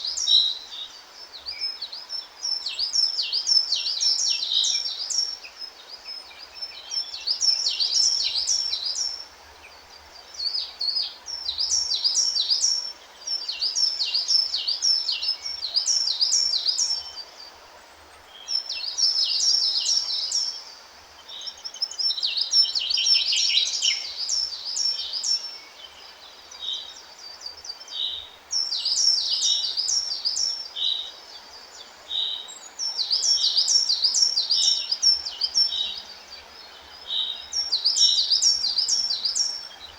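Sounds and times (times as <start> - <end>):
faint steady hiss: 0.0 - 39.9
songbird singing: 0.0 - 39.9.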